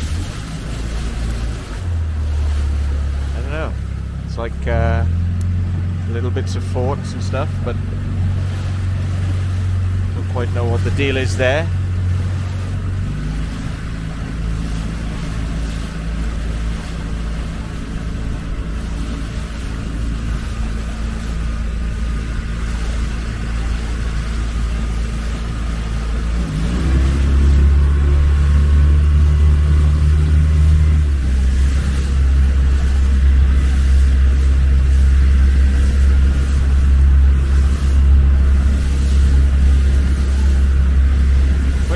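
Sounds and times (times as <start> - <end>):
motorboat engine running: 0.0 - 41.9.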